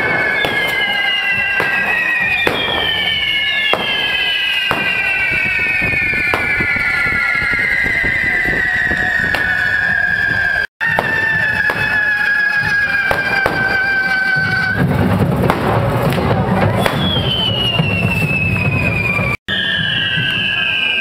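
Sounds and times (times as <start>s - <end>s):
shrill falling whistle: 0.0s - 14.9s, 16.7s - 21.0s
firework crackles: 0.0s - 21.0s.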